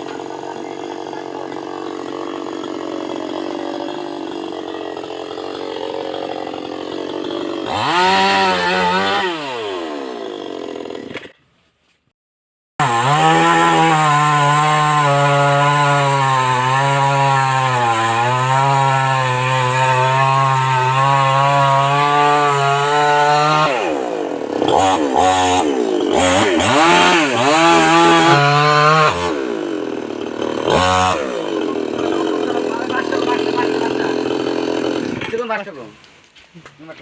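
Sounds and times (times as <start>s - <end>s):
chainsaw cutting wood: 0.0s - 11.4s, 12.8s - 36.4s.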